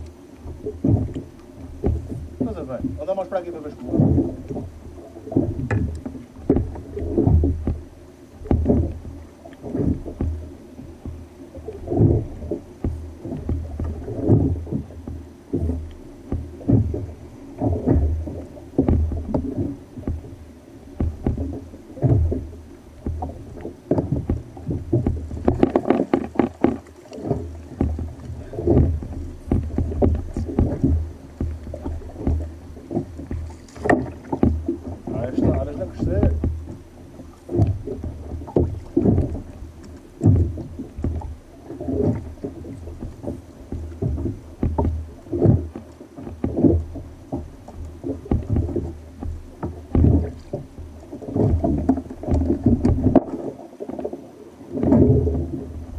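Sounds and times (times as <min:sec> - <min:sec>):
waves slapping kayak hull: 0:00.0 - 0:55.9.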